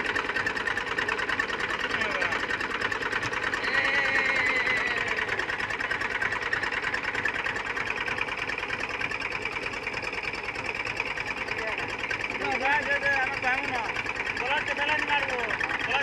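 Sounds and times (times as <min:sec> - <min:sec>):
tractor diesel engine clattering: 0:00.0 - 0:16.0.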